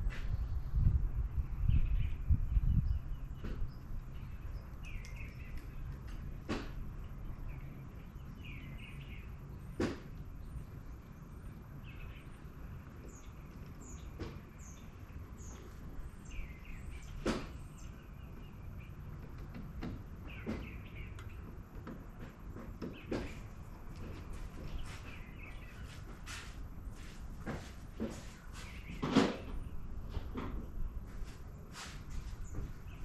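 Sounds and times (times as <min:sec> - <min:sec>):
birds chirping: 0:00.4 - 0:33.0.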